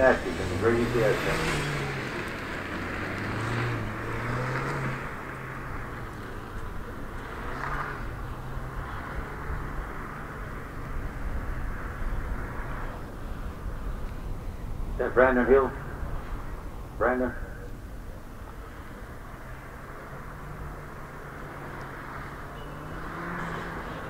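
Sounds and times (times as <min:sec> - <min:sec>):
car engine accelerating and slowing: 0:00.0 - 0:24.0.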